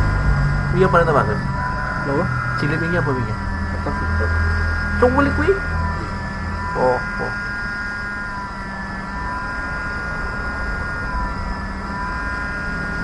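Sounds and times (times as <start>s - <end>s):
electric equipment humming: 0.0s - 13.0s
high whine: 0.0s - 13.0s.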